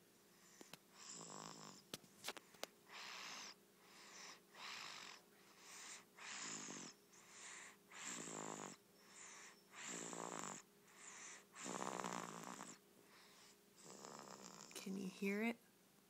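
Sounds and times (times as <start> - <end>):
child snoring softly: 0.3 - 14.9.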